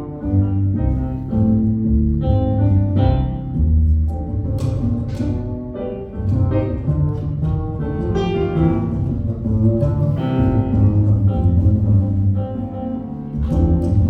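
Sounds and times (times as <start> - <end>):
acoustic band playing: 0.0 - 14.0.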